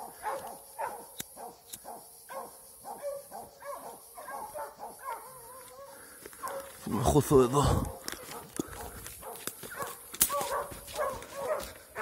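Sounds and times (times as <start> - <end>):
distant hound barking and baying: 0.0 - 6.8, 7.9 - 12.0.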